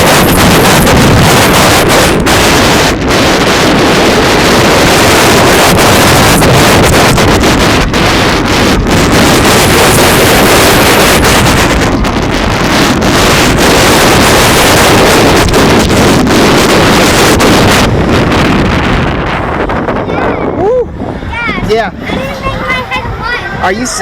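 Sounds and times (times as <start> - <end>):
roller coaster rumble and rattle: 0.0 - 24.0
wind rushing over microphone: 0.0 - 24.0.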